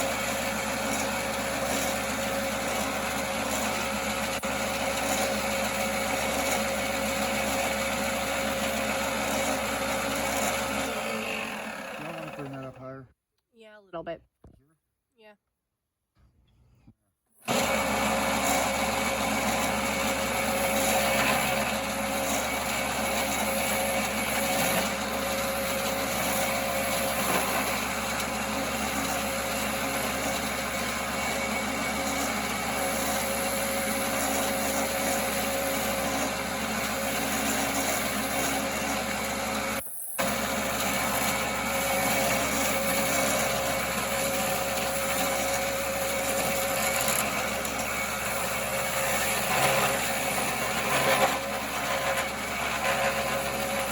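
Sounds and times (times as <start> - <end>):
wood lathe turning wood: 0.0 - 12.9, 17.4 - 53.9.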